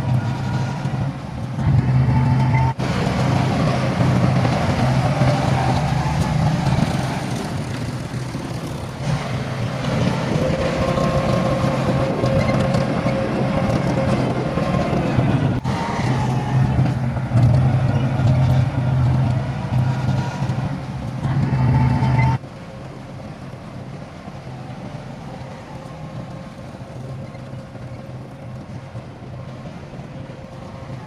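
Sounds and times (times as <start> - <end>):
heavy diesel engine humming: 0.0 - 31.0.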